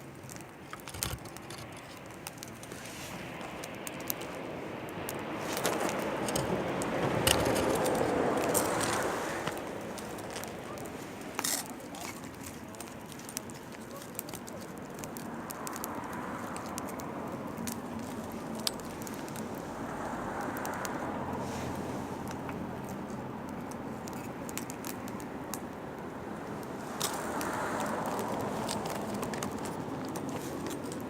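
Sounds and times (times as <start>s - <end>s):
firewood crackling and popping: 0.0s - 31.0s.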